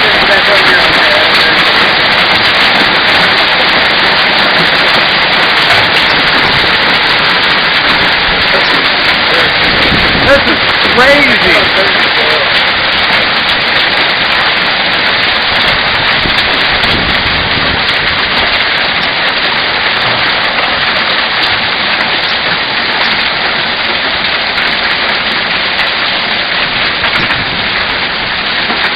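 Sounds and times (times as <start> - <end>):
heavy rain and hail pelting: 0.0 - 28.9.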